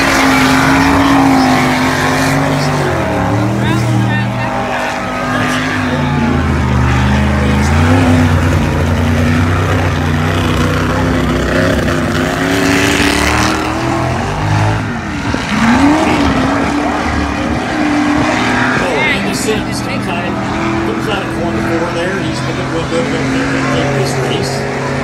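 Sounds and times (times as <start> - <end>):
swamp buggy engines running hard: 0.0 - 25.0.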